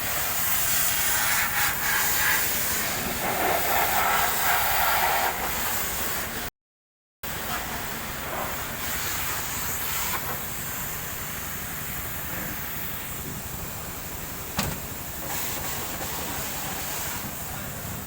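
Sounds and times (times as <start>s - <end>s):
high-pressure spray hissing: 0.0s - 6.3s, 8.2s - 18.0s.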